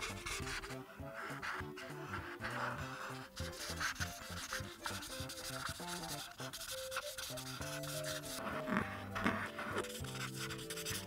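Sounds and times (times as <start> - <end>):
background music: 0.0 - 11.0
coloring strokes scratching paper: 0.0 - 11.0.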